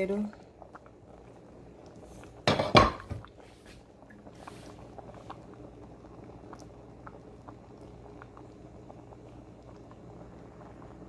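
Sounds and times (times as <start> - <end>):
bubbles popping: 0.0 - 11.0
stew simmering: 0.0 - 11.0.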